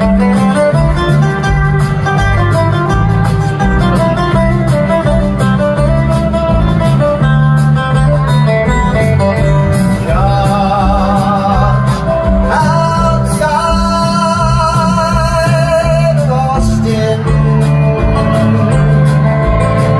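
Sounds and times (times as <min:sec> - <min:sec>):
country-rock band playing: 0:00.0 - 0:19.9
held lead melody line: 0:00.0 - 0:19.9.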